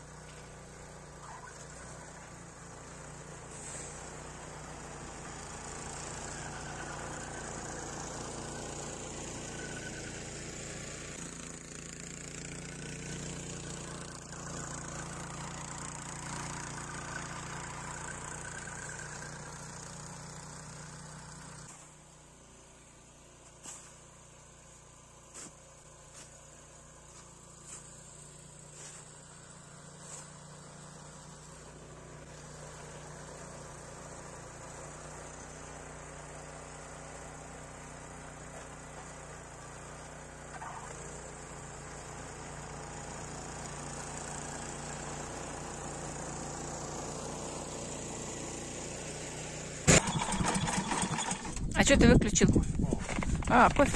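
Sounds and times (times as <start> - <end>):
snowblower engine running: 0.0 - 53.9.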